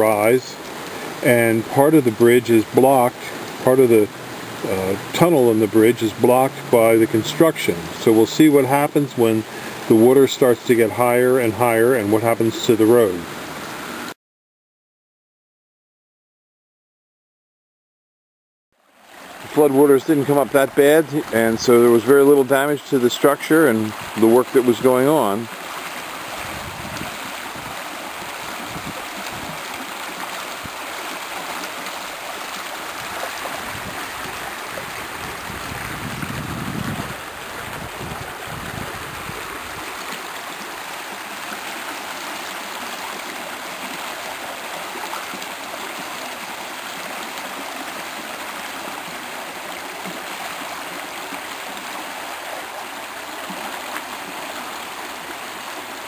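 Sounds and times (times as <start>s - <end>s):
creek rushing: 0.0s - 14.2s, 18.8s - 56.0s.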